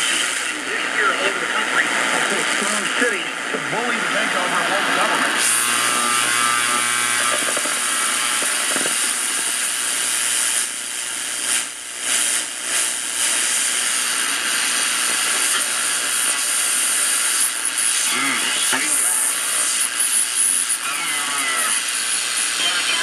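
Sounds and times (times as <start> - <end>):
radio static and hiss: 0.0 - 23.0.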